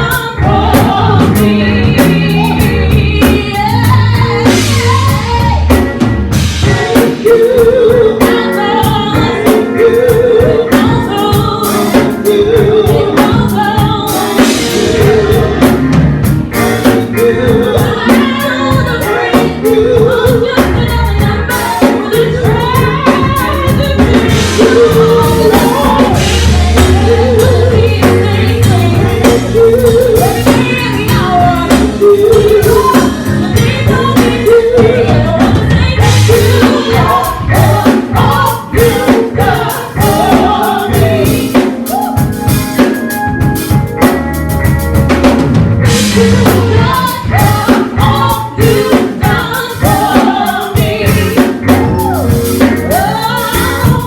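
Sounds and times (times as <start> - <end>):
drum kit beat: 0.0 - 54.0
gospel band and singers: 0.0 - 54.0.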